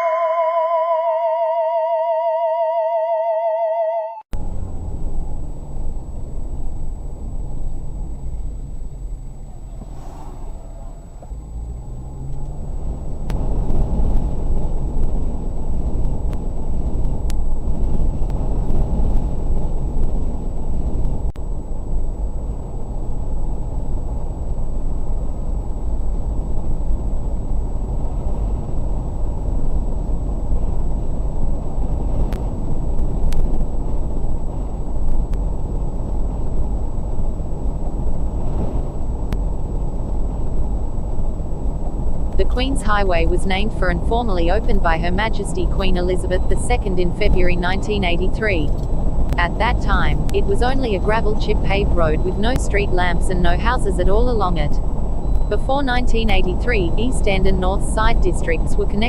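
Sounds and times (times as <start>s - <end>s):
car engine and road rumble: 4.3s - 59.0s.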